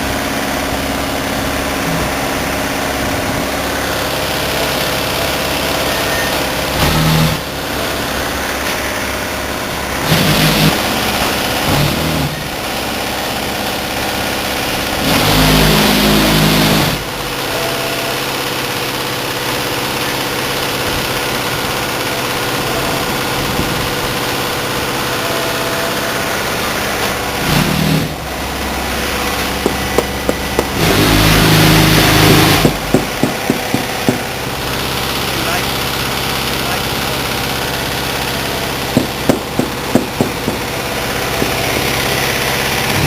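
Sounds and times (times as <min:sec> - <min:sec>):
truck engine running: 0:00.0 - 0:43.0.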